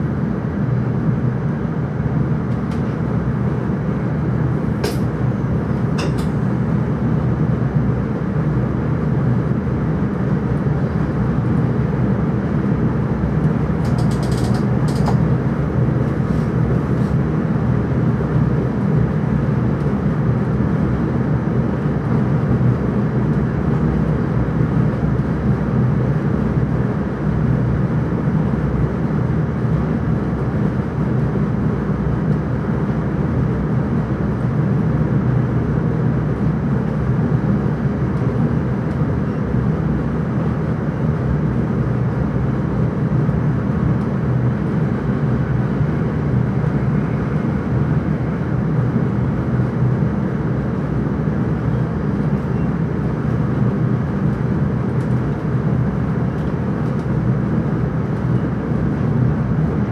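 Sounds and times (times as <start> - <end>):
train rumble from cab: 0.0 - 59.9.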